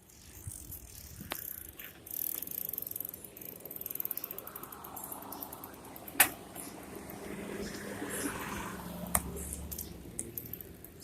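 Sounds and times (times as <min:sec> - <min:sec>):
bicycle freewheel ticking: 0:00.0 - 0:11.0.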